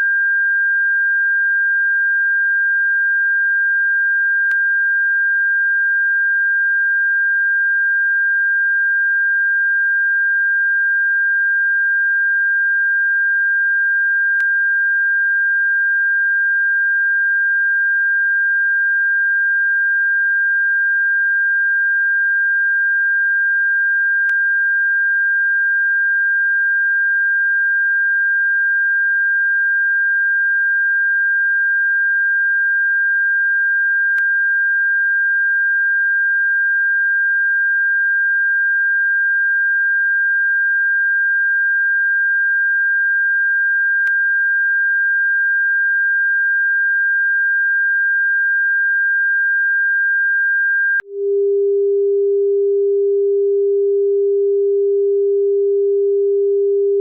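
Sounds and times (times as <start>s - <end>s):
steady sine tone: 0.0s - 57.0s.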